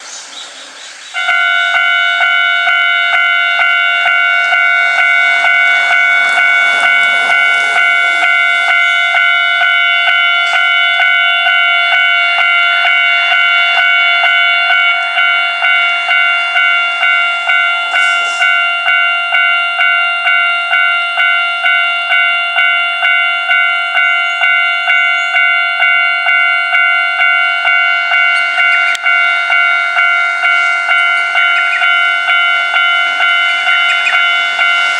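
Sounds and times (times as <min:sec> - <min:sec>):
level crossing bell clanging: 0:01.2 - 0:34.9.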